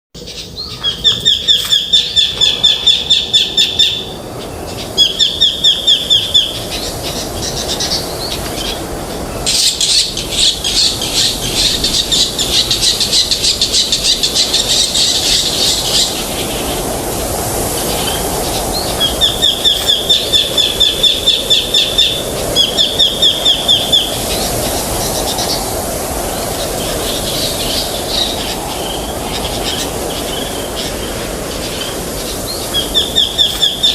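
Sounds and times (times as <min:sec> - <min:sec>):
birds trilling: 0:00.2 - 0:33.9
wind rushing: 0:01.0 - 0:33.9.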